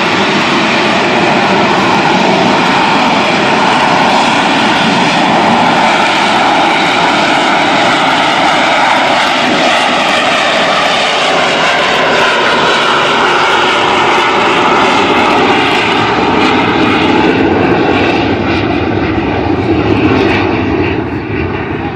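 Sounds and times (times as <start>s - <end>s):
jet engine roaring: 0.0s - 21.9s.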